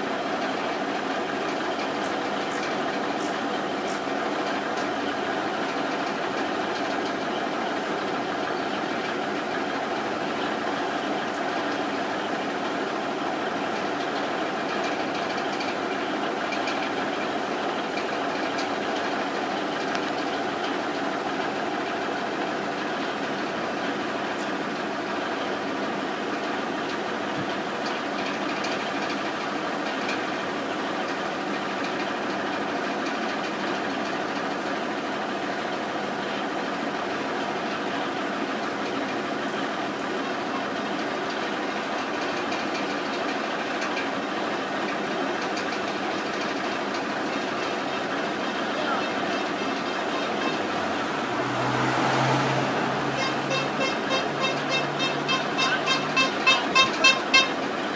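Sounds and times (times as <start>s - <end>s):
steady mechanical drone: 0.0s - 57.9s.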